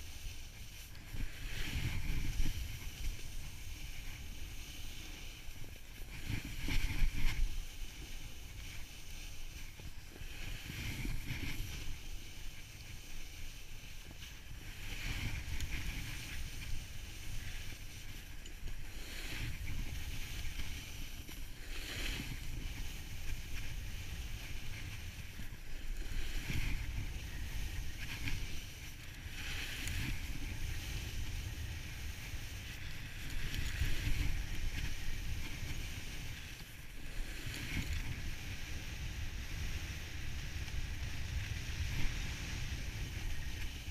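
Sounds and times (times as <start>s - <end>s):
snowboard edge scraping snow: 0.0s - 43.9s.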